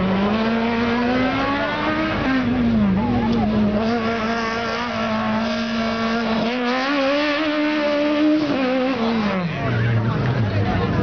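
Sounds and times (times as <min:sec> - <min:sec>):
race car engine revving high: 0:00.0 - 0:11.0.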